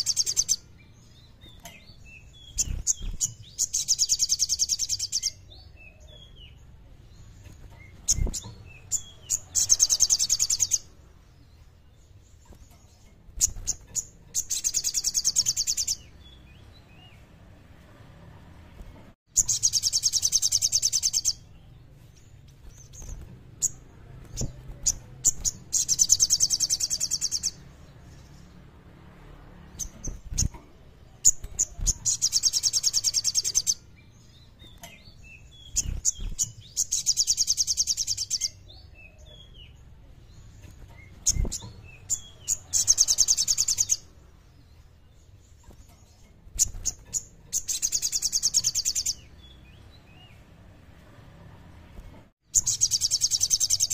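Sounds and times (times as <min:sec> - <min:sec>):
bird chirps and calls: 0:00.0 - 0:17.4, 0:19.3 - 0:28.7, 0:29.7 - 0:51.0, 0:52.5 - 0:53.9.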